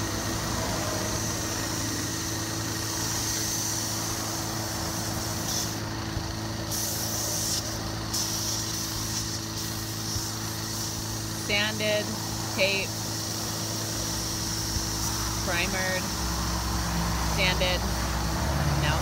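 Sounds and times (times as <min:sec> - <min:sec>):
paint spray gun hissing: 0:00.0 - 0:18.2.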